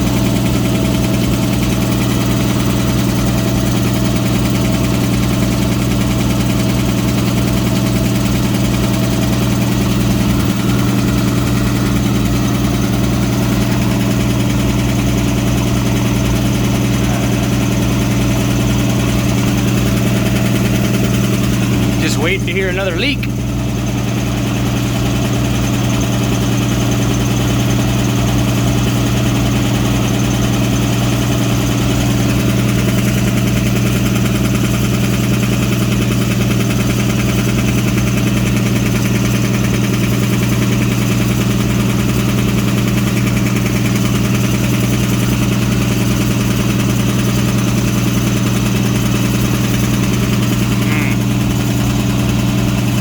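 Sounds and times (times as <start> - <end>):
air compressor running: 0.0 - 53.0.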